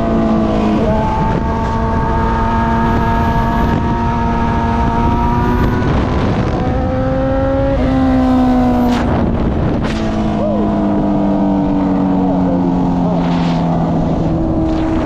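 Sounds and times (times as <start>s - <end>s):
wind rush: 0.0s - 15.0s.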